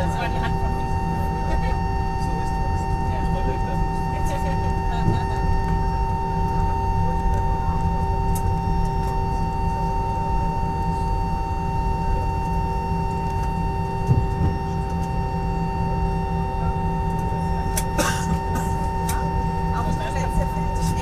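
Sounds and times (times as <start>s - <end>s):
airliner cabin rumble: 0.0s - 21.0s
jet engines whining: 0.0s - 21.0s.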